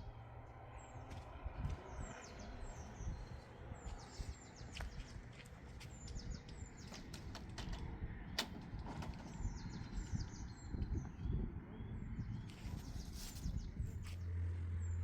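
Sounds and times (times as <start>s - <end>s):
songbird chirping: 0.1s - 8.2s, 9.2s - 15.0s.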